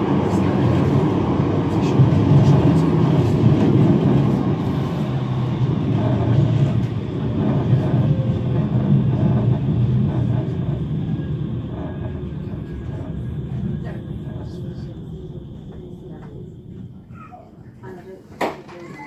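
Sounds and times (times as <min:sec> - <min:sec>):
tram wheels rumbling: 0:00.0 - 0:19.0.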